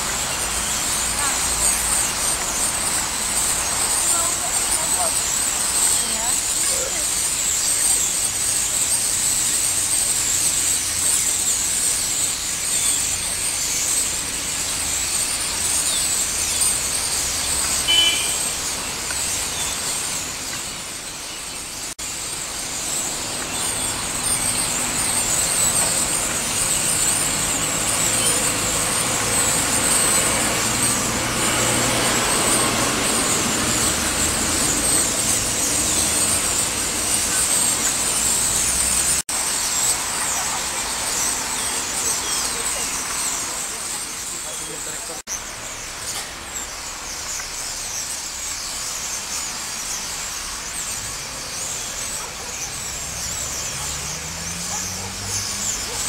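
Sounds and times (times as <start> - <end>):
starling flock chattering: 0.0 - 56.0.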